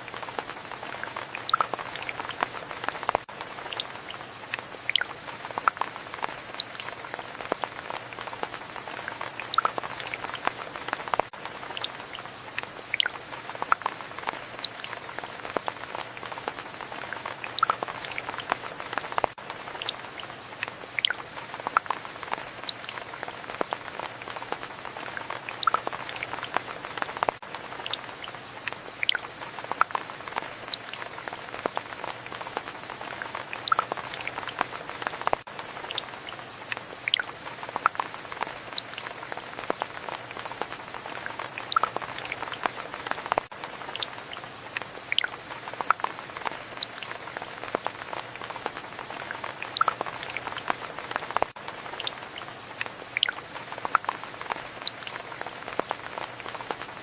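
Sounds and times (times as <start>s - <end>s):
rain hiss: 0.0s - 57.0s
raindrops ticking close by: 0.0s - 57.0s.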